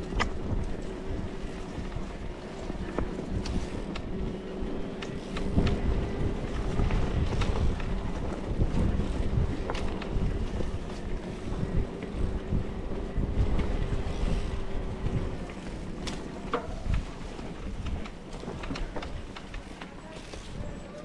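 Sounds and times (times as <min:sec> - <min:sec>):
bike clicks and rattles: 0:00.0 - 0:21.0
wind buffeting microphone: 0:00.0 - 0:21.0.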